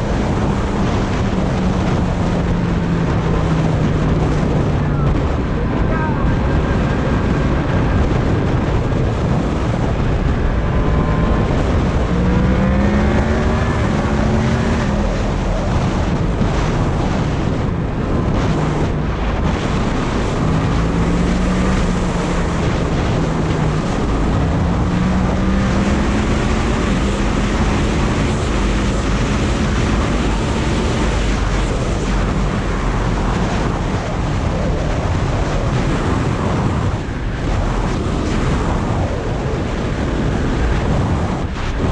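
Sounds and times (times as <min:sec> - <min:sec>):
motorcycle engine accelerating: 0:00.0 - 0:39.2
wind buffeting microphone: 0:00.0 - 0:41.9.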